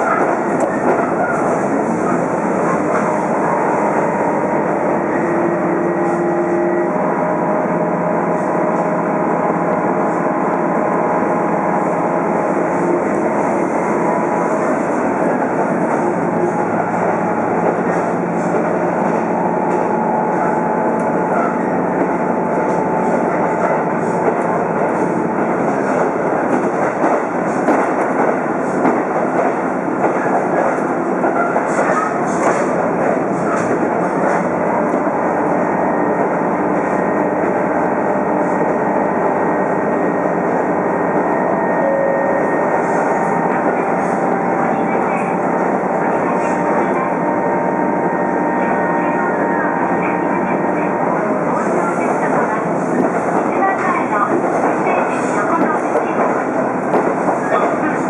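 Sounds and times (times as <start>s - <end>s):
railcar diesel engine: 0.0s - 58.0s
wheels rumbling on rail: 0.0s - 58.0s.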